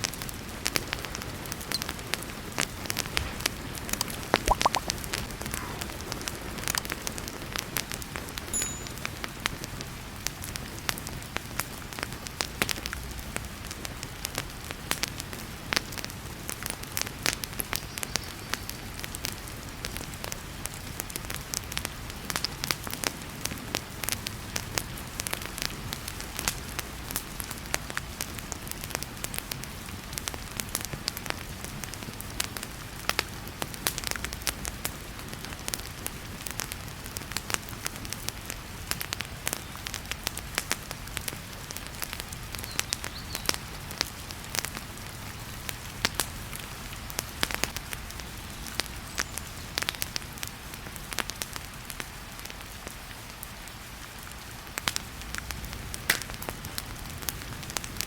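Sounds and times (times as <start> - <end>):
heavy rain hiss: 0.0 - 58.0
wood fire crackling: 0.0 - 58.0.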